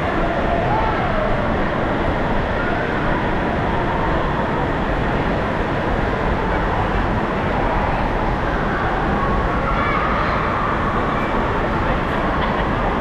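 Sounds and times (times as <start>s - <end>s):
many distant voices: 0.0s - 13.0s.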